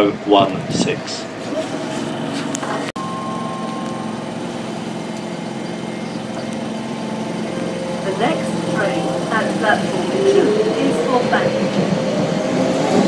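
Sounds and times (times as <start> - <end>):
train electrical equipment humming: 0.0 - 13.0.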